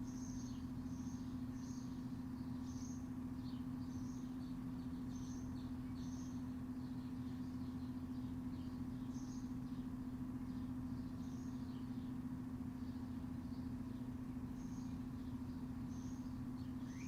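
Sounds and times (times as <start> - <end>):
small birds chirping faintly: 0.0 - 17.0.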